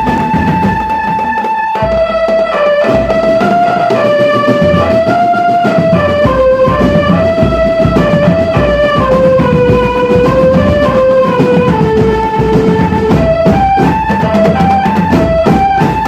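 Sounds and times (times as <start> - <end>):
bass drum thumps: 0.0 - 16.0
melody of held notes: 0.0 - 16.0
steady drumming: 0.0 - 16.0.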